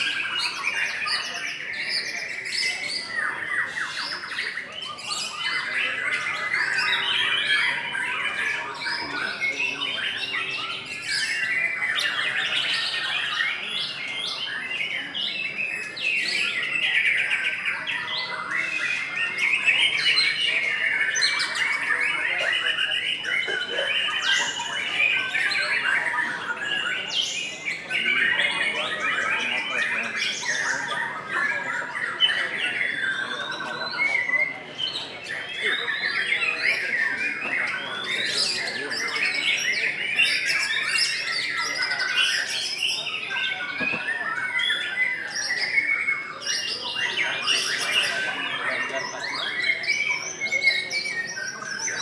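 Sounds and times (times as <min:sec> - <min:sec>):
songbirds singing whistled phrases: 0:00.0 - 0:52.0.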